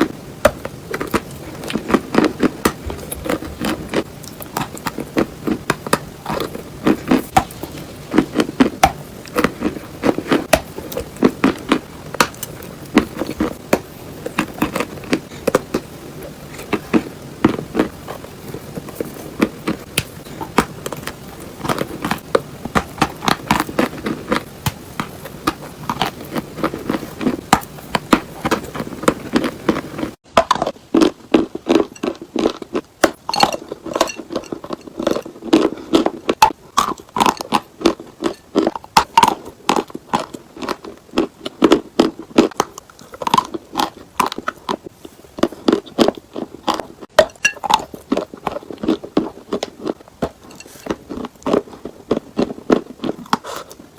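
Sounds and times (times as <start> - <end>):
crunching and chewing chalk: 0.0 - 53.9.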